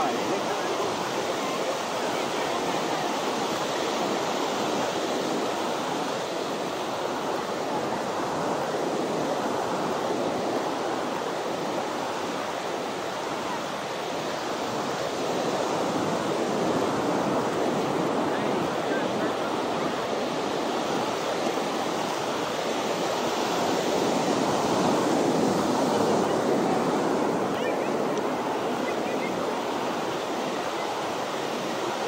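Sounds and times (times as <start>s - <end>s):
ocean waves on a beach: 0.0s - 32.0s.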